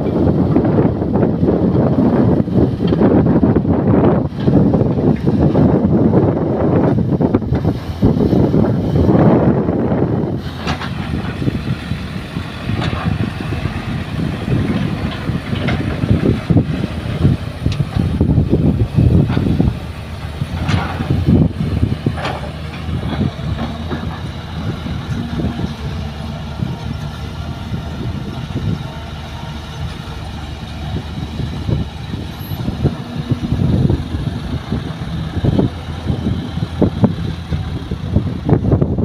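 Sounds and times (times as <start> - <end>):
diesel engines running: 0.0 - 39.0.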